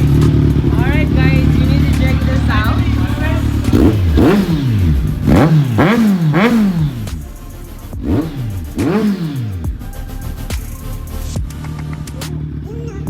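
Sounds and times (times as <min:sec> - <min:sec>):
motorcycle engine idling: 0:00.0 - 0:13.0
motorcycle engine revving: 0:00.0 - 0:13.0.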